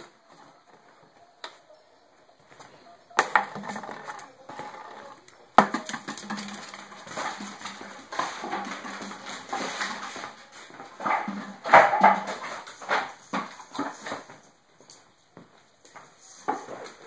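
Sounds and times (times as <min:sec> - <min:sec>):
scuffling and clattering: 0:02.4 - 0:17.0.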